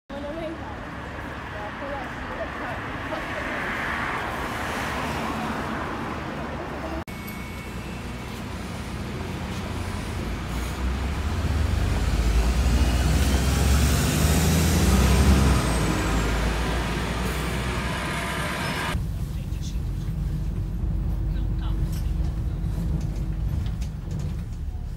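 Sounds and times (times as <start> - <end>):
bus engine rumble: 0.1 - 24.9
street traffic: 0.1 - 24.9.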